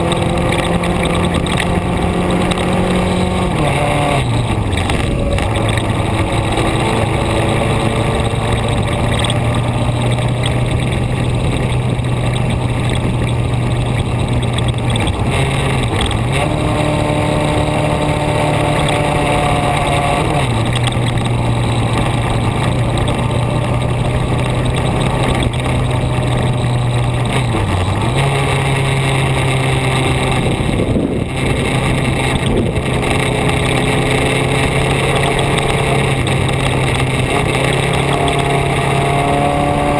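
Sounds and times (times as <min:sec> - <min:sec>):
steady rushing noise: 0:00.0 - 0:39.9
vehicle engine running: 0:00.0 - 0:39.9.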